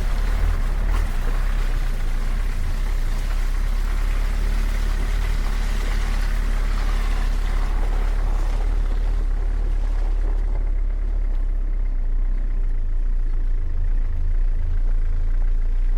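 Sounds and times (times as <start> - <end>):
road and wind noise: 0.0 - 15.9
truck engine running: 0.0 - 15.9.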